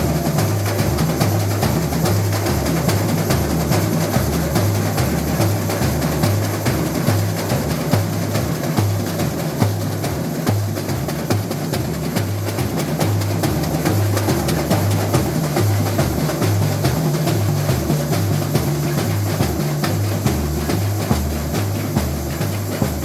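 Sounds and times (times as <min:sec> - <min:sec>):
bass drums beating: 0:00.0 - 0:23.0
snare drums and percussion: 0:00.0 - 0:23.0.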